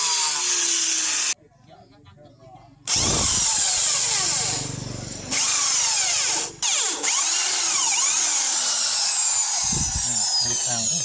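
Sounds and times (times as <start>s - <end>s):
power tool cutting steel: 0.0s - 1.4s, 2.9s - 11.0s.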